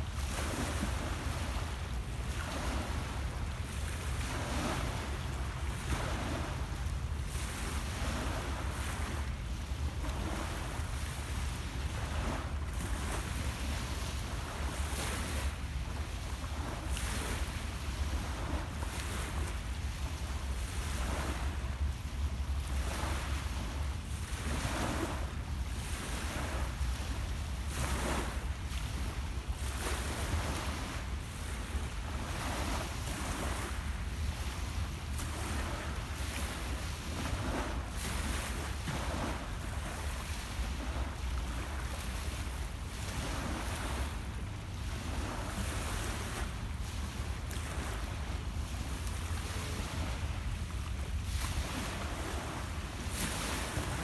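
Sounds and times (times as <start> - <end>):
lake waves lapping on shore: 0.0 - 54.0
wind rumble on microphone: 0.0 - 54.0.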